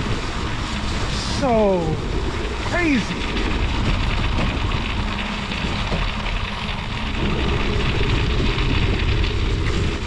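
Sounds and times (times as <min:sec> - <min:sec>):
studded bicycle tyre on ice: 0:00.0 - 0:10.0
wind rumbling on microphone: 0:00.0 - 0:10.0.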